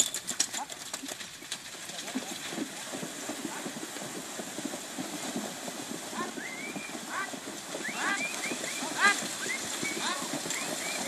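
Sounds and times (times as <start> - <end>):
hooves splashing in water: 0.0 - 11.0
hooves thudding on wet ground: 0.0 - 11.0.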